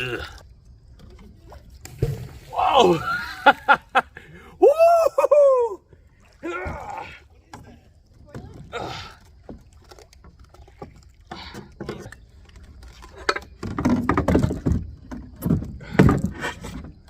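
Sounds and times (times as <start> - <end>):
paddling water sounds: 0.0 - 17.0.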